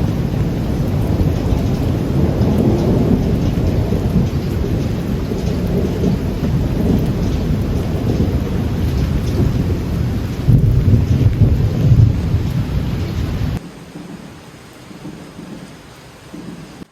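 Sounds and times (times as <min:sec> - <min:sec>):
rain falling: 0:00.0 - 0:16.9
thunder rumbling: 0:00.0 - 0:16.9.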